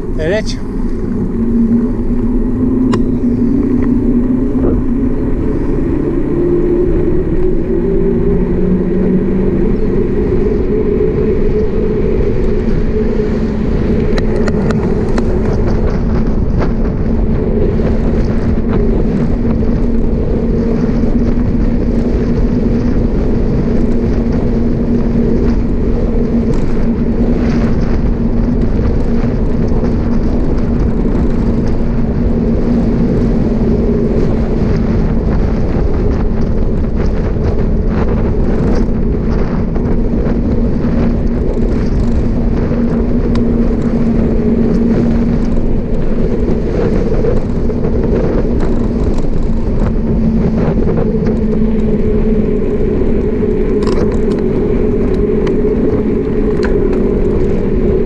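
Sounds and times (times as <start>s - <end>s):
bicycle tyres on asphalt: 0.0s - 58.0s
steady hum: 0.0s - 58.0s
wind buffeting microphone: 0.0s - 58.0s.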